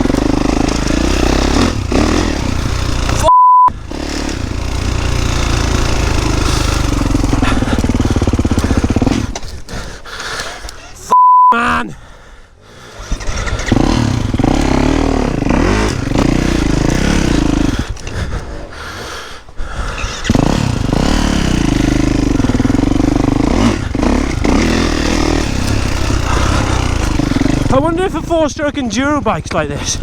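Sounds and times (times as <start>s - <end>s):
motocross bike engine revving: 0.0s - 11.1s, 12.8s - 18.9s, 19.9s - 29.3s.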